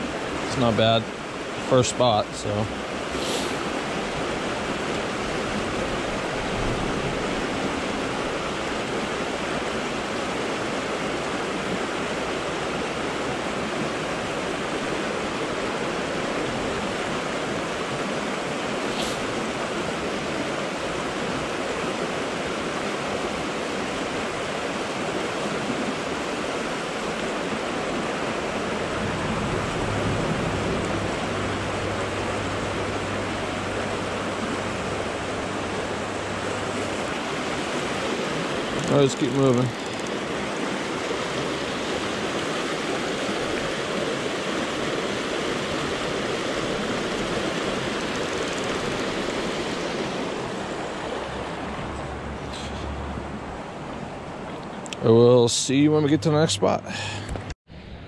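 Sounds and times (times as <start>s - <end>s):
water rushing over rocks: 0.0s - 57.5s.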